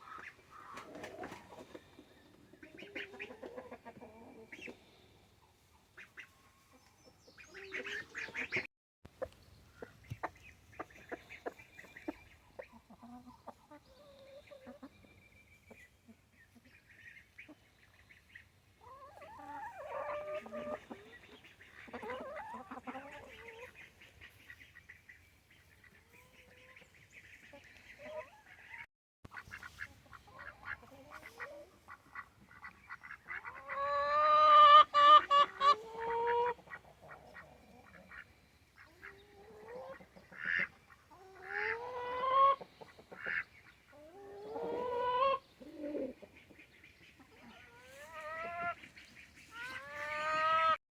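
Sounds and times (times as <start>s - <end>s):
poultry calling: 0.0s - 4.8s, 5.9s - 50.8s.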